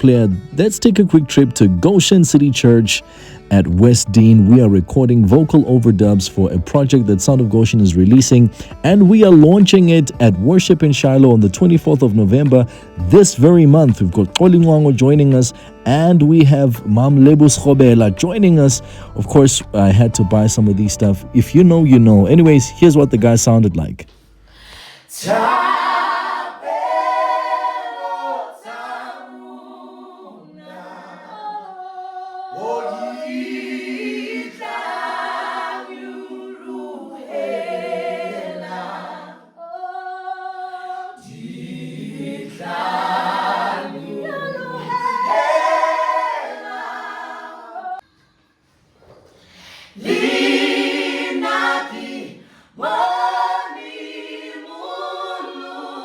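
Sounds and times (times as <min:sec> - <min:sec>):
unaccompanied gospel singing: 0:00.0 - 0:23.6, 0:25.1 - 0:48.1, 0:49.8 - 0:56.0.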